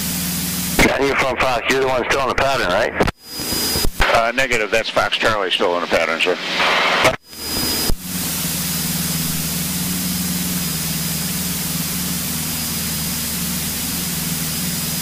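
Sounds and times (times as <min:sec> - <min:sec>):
light aircraft engine hum: 0:00.0 - 0:15.0.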